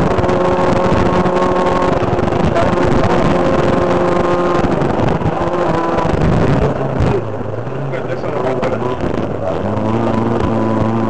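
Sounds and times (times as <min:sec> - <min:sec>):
noisy rush: 0:00.0 - 0:11.0
rally car engine at high revs: 0:00.0 - 0:11.0.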